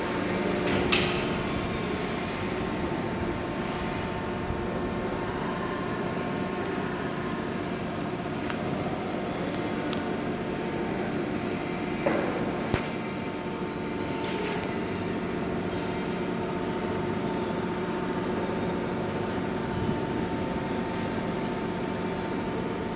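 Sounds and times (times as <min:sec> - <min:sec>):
hydraulic pump humming and whining: 0:00.0 - 0:22.9.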